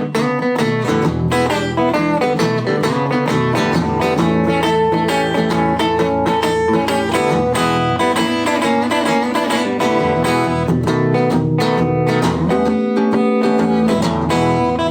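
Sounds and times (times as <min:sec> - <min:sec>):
electric guitar chords and notes: 0:00.0 - 0:14.9.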